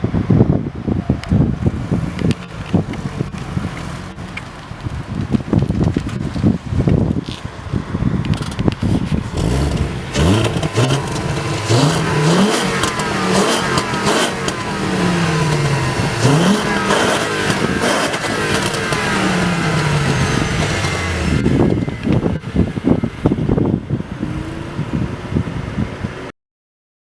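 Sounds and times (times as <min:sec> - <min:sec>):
car engine revving: 0:00.2 - 0:25.8.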